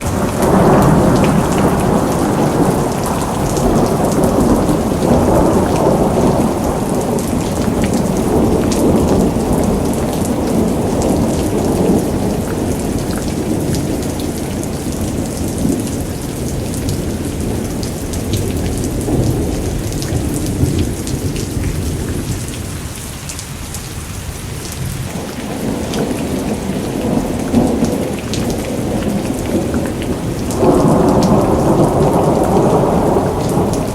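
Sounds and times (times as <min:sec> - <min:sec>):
thunder rumbling: 0:00.0 - 0:23.0, 0:23.9 - 0:33.9
steady rain: 0:00.0 - 0:33.9.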